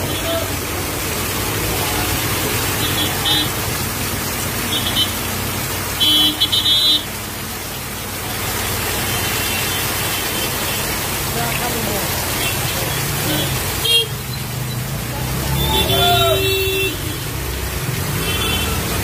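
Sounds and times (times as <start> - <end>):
heavy rain on street: 0.0 - 19.0.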